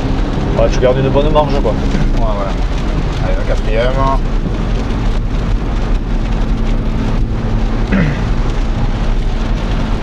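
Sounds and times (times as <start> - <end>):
car engine drone: 0.0 - 10.0
rain on car bodywork: 0.0 - 10.0
tyres hissing on wet road: 0.0 - 10.0.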